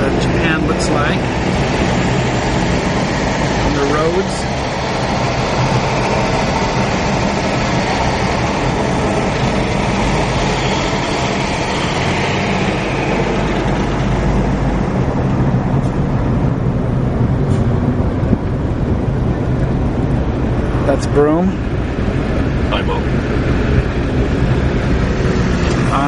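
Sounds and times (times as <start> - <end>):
vehicle interior rumble: 0.0 - 26.0.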